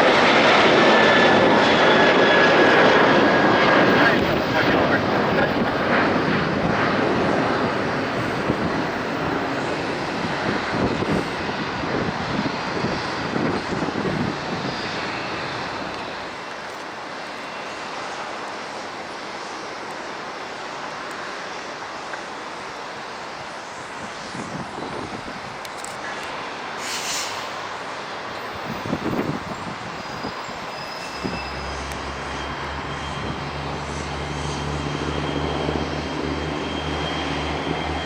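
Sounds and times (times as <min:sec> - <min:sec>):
jet airliner engines: 0:00.0 - 0:38.0.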